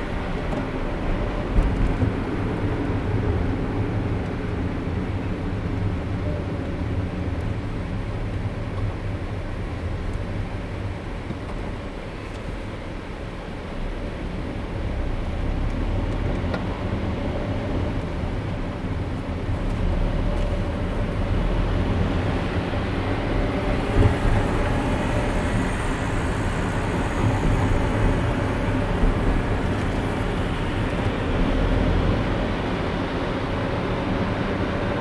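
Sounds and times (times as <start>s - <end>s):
car road and tyre noise: 0.0s - 35.0s.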